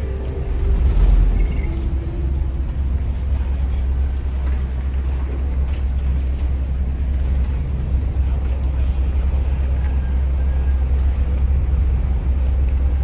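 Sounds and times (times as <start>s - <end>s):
boat engine rumble: 0.0s - 13.0s
water wash noise: 0.0s - 13.0s.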